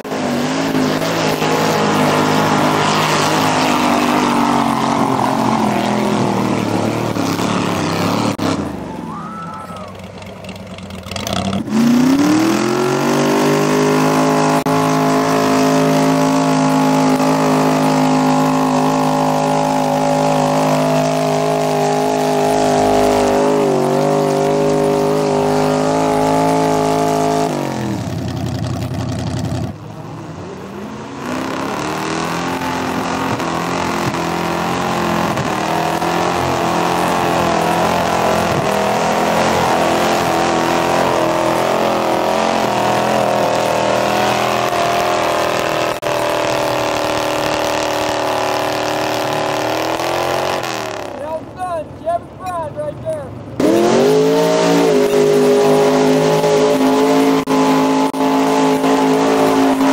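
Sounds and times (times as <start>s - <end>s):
pickup truck engine revving: 0.0s - 59.9s.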